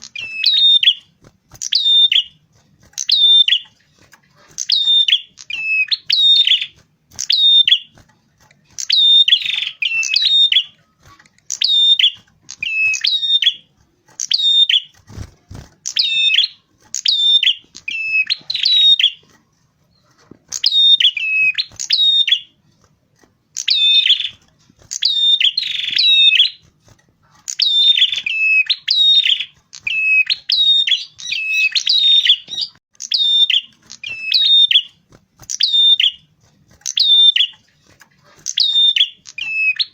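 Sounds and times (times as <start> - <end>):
bird calling with high notes: 0.0 - 8.0, 8.7 - 19.4, 20.5 - 22.6, 23.5 - 26.7, 27.5 - 37.7, 38.3 - 39.9.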